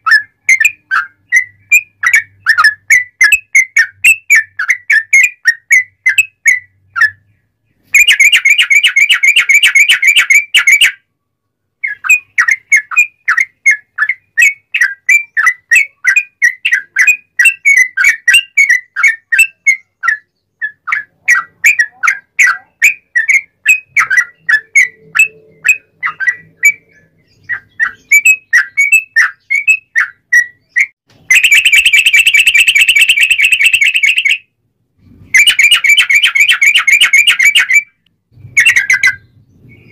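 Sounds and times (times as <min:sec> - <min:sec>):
bulbul singing: 0:00.0 - 0:11.1, 0:11.8 - 0:39.9.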